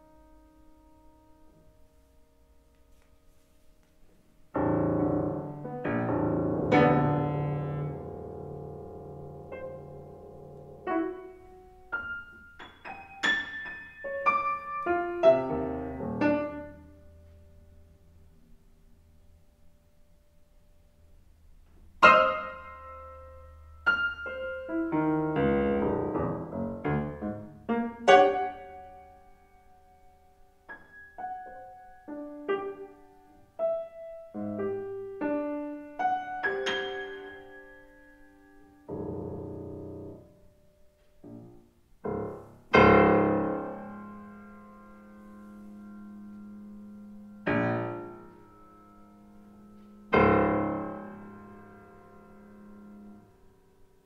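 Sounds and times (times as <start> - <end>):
solo piano notes and chords: 0.0 - 54.0.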